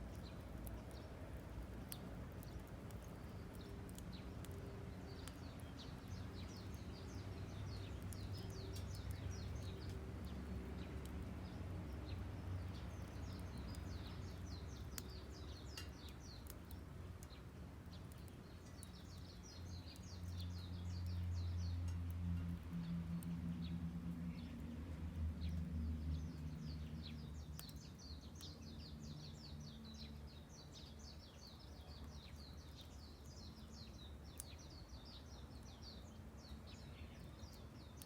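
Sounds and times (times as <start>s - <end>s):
songbird singing rapid chirps: 0.0s - 38.0s.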